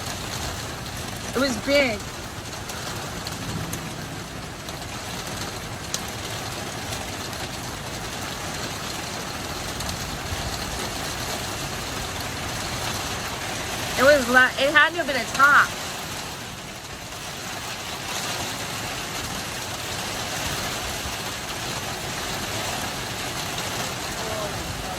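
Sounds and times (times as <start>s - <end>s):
rain hissing: 0.0s - 24.9s.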